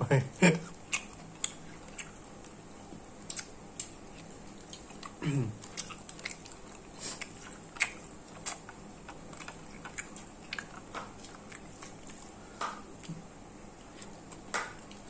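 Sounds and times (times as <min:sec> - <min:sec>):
mouth clicks and smacks: 0:00.5 - 0:13.2
person chewing: 0:00.5 - 0:15.0.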